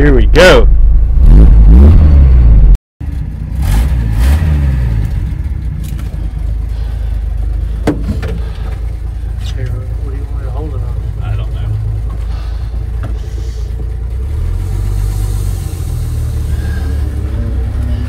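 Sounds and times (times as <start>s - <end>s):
truck engine revving: 1.1s - 18.0s.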